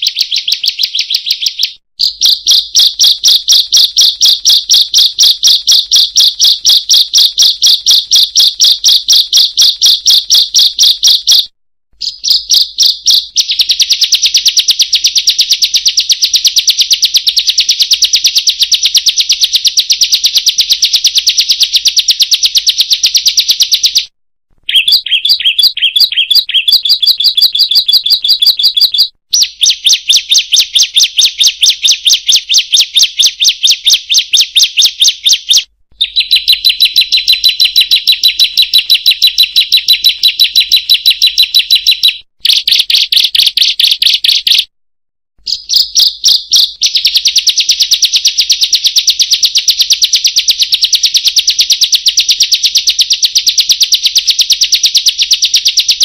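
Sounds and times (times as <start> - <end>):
bird chirping rapidly: 0.0 - 44.7, 45.4 - 51.0.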